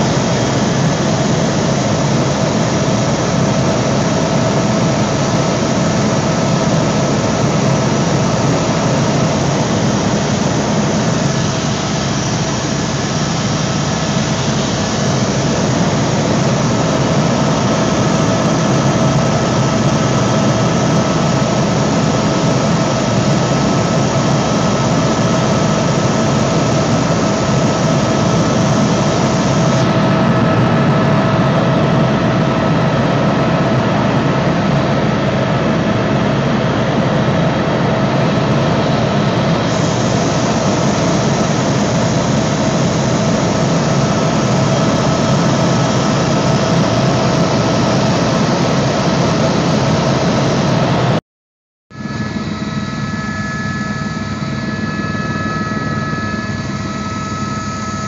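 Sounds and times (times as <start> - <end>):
constant whine: 0.0 - 51.2, 51.9 - 58.0
helicopter turbine and rotor drone: 0.0 - 51.2, 52.0 - 58.0.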